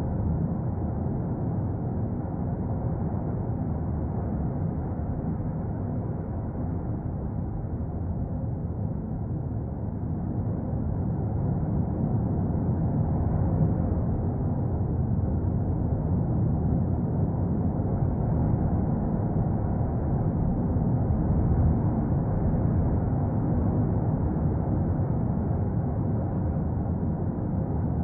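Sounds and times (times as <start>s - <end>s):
volcano deep rumble: 0.0s - 28.0s.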